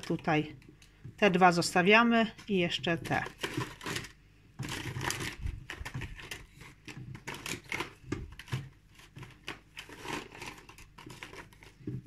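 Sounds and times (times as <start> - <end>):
cord rustling and scraping: 2.3 - 12.0.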